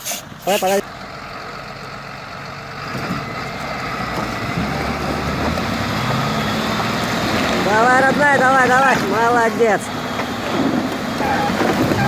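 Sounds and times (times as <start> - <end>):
heavy vehicle engine under load: 0.0 - 12.0.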